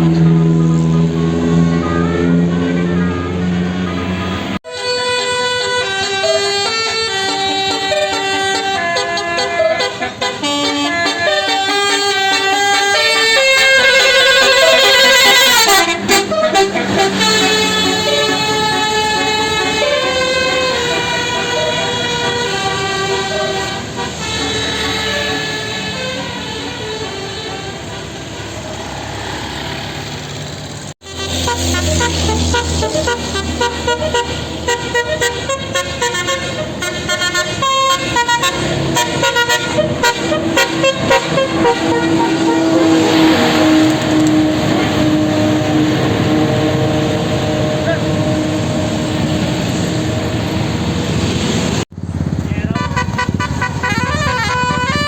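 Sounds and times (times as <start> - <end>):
bus musical horn playing tune: 0.0 - 29.8, 31.0 - 51.8, 52.6 - 55.0
low engine rumble: 0.0 - 55.0.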